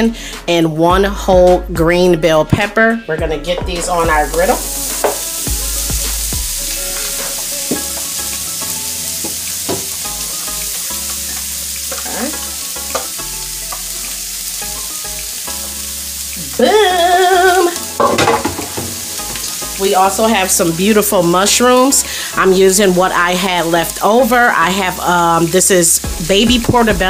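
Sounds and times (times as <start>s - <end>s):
vegetables sizzling on griddle: 4.3s - 26.8s.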